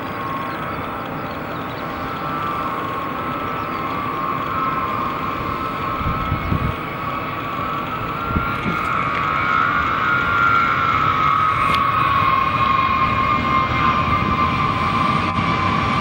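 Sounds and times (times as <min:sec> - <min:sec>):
jet turbofans whining: 0:00.0 - 0:16.0
rushing roar of aircraft: 0:00.0 - 0:16.0.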